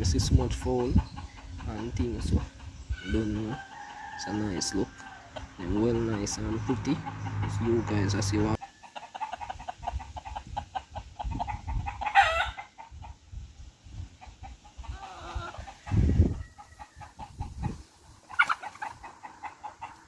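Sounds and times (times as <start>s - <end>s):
chickens clucking and peeping: 0.0s - 20.0s.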